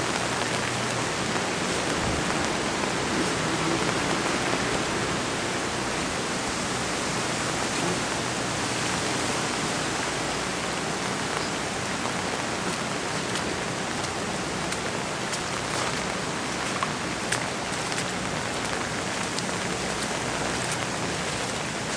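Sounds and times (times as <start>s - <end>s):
rain pattering on surfaces: 0.0s - 21.9s.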